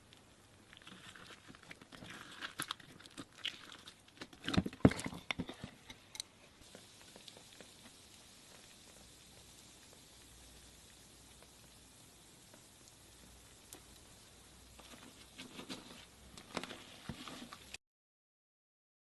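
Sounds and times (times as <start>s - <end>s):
slime crackling and popping: 0.0s - 4.6s, 6.6s - 17.8s.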